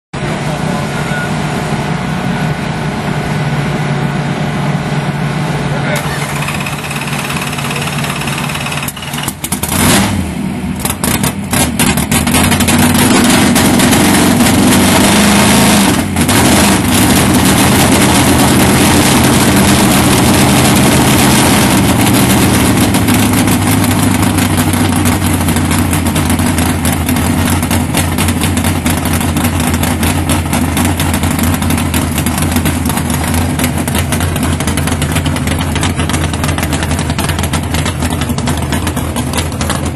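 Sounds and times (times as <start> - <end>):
race car engine revving: 0.3 - 39.9.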